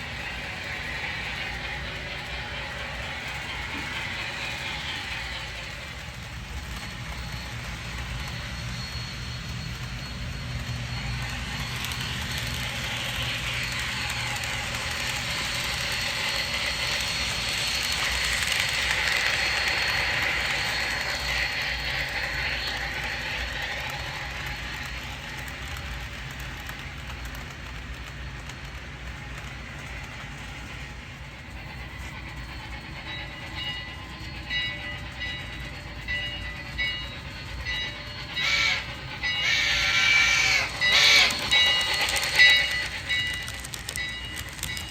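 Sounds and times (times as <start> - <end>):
model train rolling on track: 0.0 - 44.9.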